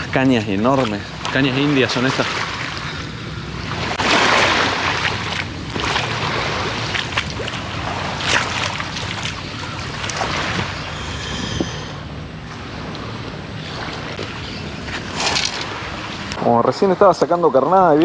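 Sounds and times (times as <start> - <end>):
footsteps wading in a stony creek: 0.0 - 11.8, 12.5 - 16.4.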